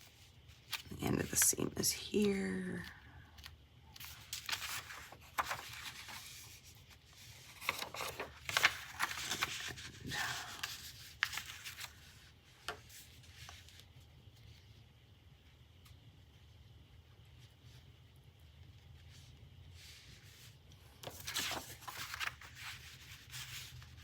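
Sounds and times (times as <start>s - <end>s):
fabric and paper rustling: 0.0s - 14.8s, 18.7s - 24.0s.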